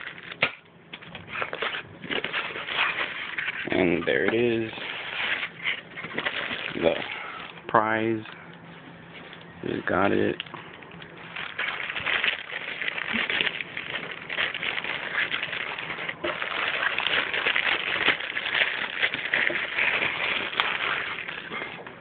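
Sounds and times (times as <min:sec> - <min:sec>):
packaging rustling and crinkling: 0:00.0 - 0:08.2, 0:10.6 - 0:22.0.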